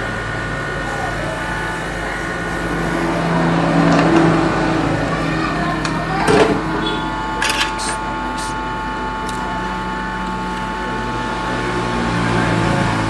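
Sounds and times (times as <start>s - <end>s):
hot air blower whirring: 0.0s - 13.0s.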